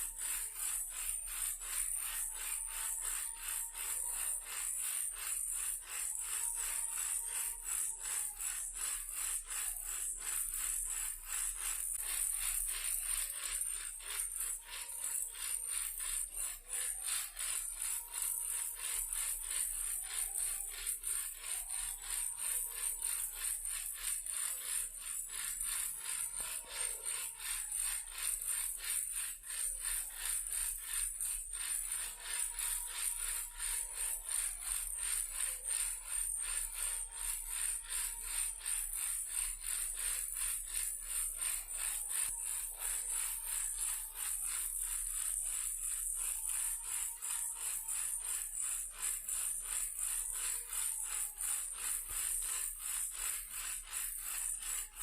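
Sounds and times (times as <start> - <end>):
toy car rattling: 0.0 - 55.0.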